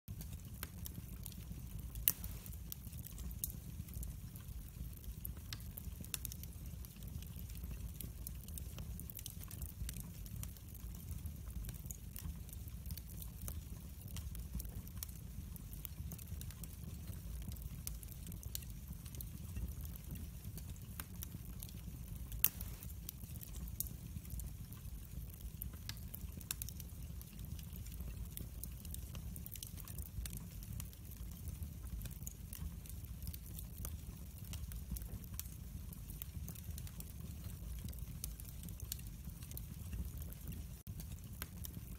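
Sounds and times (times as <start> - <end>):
fire crackling and popping: 0.1 - 41.9
low fire rumble: 0.1 - 41.9.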